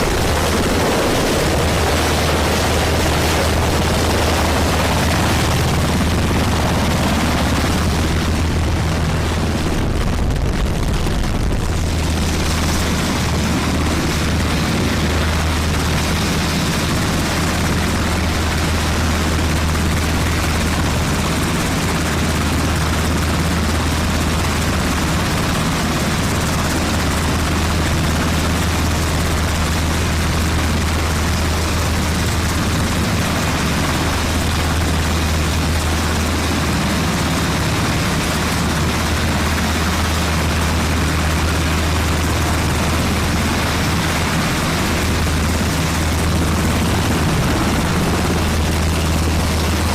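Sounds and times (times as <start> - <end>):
helicopter rotor and engine noise: 0.0 - 49.9.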